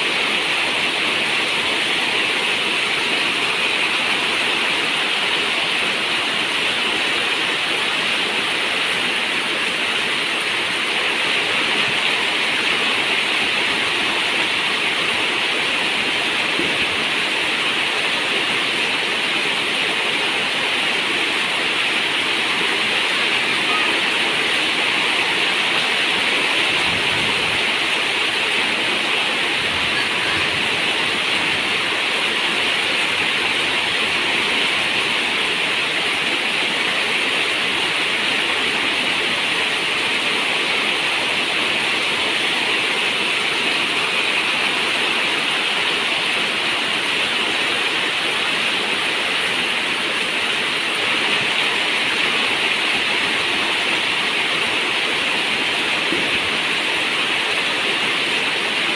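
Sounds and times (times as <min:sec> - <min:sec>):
rain on a metal roof: 0:00.0 - 0:58.9.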